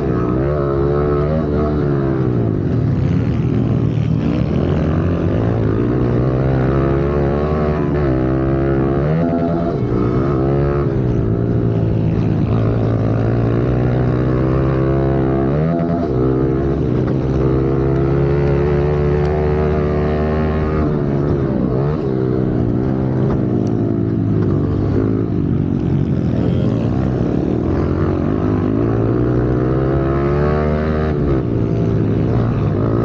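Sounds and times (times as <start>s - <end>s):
motorbike engine revving: 0.0s - 33.0s.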